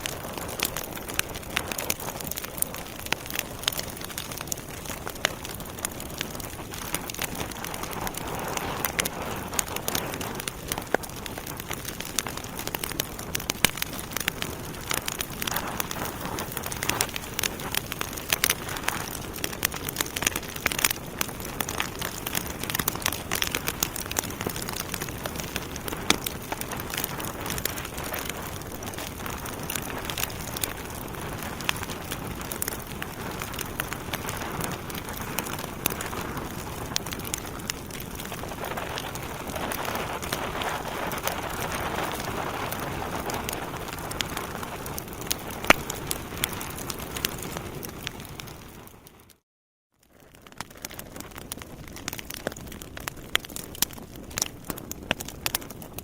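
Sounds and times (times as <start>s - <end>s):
wood fire crackling: 0.0s - 49.4s, 50.0s - 56.0s.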